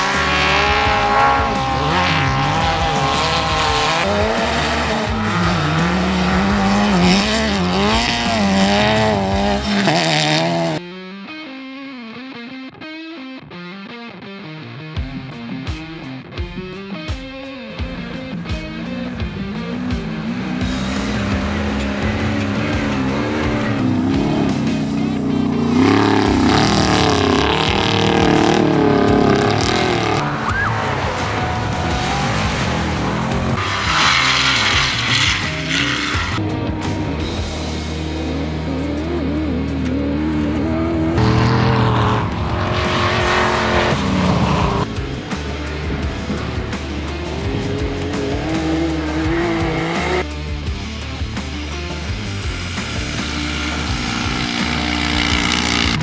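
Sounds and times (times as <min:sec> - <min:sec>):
race car engines revving: 0:00.0 - 0:10.8, 0:17.7 - 0:56.0
rock music with bass line: 0:00.0 - 0:56.0.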